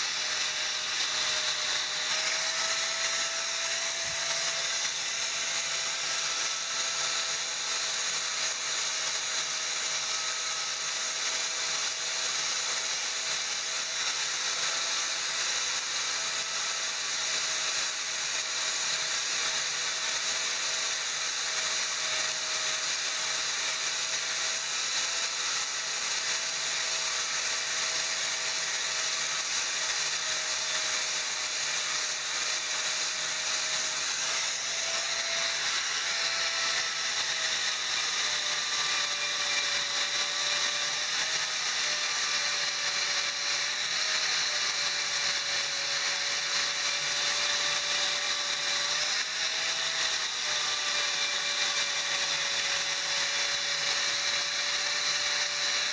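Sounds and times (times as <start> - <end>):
angle grinder grinding metal: 0.0 - 55.9.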